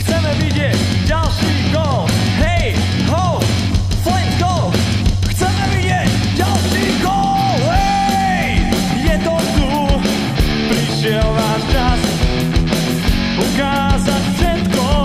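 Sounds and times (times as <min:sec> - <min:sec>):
rock song with shouted vocals: 0:00.0 - 0:15.0
steady drum hits: 0:00.0 - 0:15.0.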